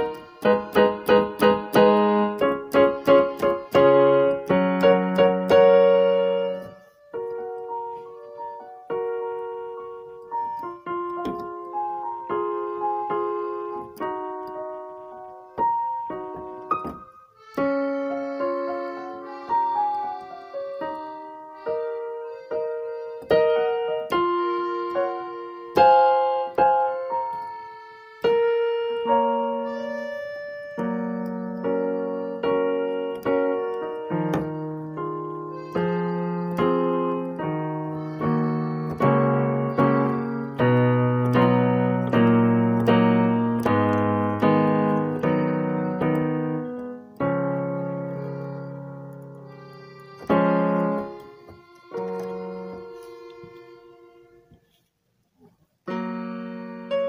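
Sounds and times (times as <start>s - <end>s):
piano melody with chords: 0.0s - 54.6s, 55.8s - 57.0s.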